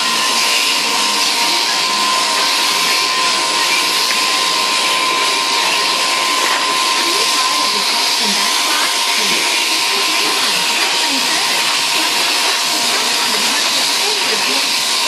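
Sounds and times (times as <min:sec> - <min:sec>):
sheep shearing handpiece whining: 0:00.0 - 0:15.0.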